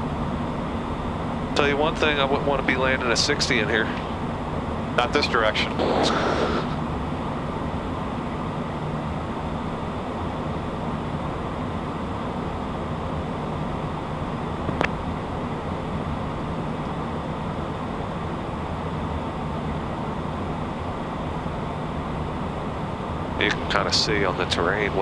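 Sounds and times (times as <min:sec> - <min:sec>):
jet cockpit airflow and engine: 0:00.0 - 0:25.0.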